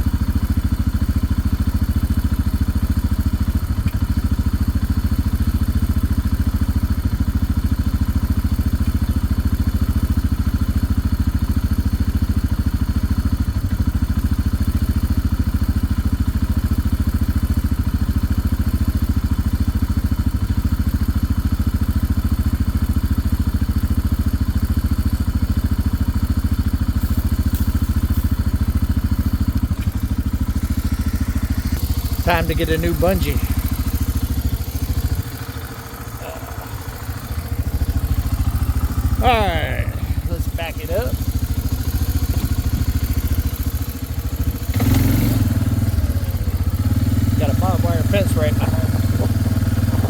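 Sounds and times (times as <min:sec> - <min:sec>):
off-road vehicle engine running: 0:00.0 - 0:50.0.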